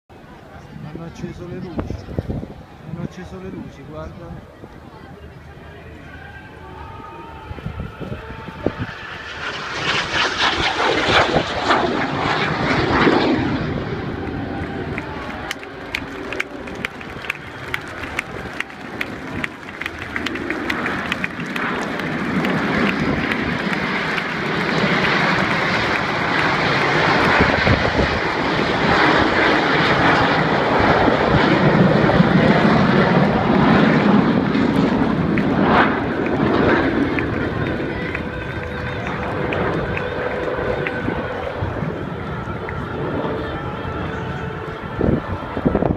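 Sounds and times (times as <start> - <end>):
jet aircraft roaring past: 0.1 - 45.9.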